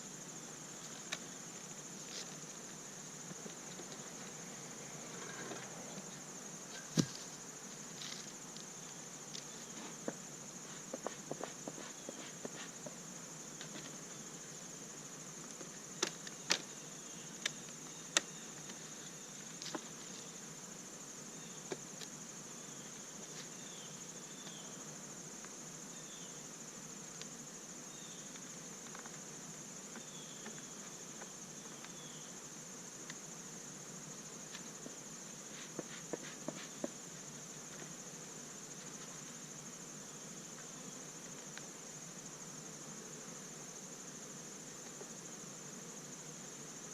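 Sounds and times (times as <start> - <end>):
crickets trilling: 0.0 - 46.9.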